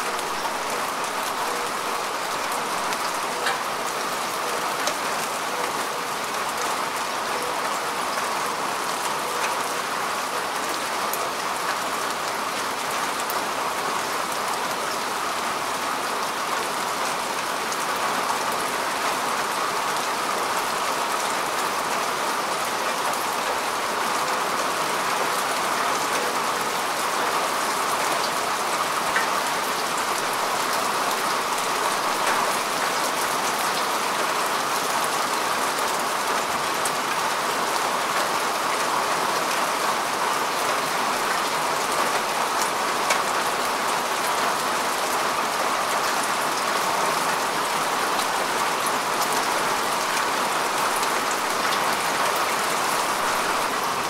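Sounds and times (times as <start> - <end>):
rain falling on grass: 0.0 - 54.0.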